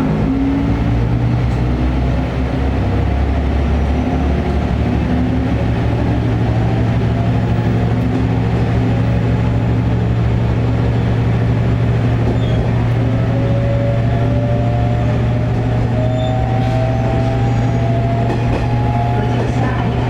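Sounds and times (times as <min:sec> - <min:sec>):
diesel engine low hum: 0:00.0 - 0:20.0.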